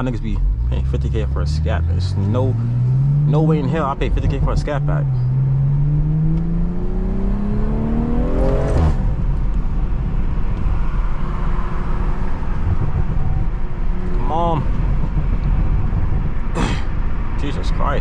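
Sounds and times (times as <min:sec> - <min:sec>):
car engine accelerating: 0:00.0 - 0:18.0
road and wind noise: 0:00.0 - 0:18.0.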